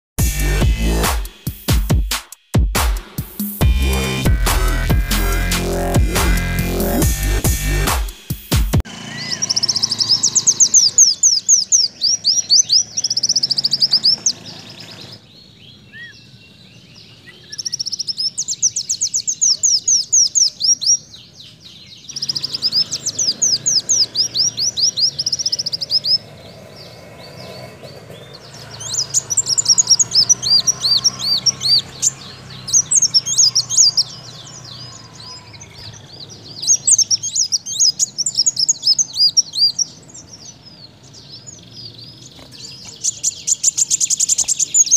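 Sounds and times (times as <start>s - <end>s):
bird trilling song: 3.3s - 44.9s.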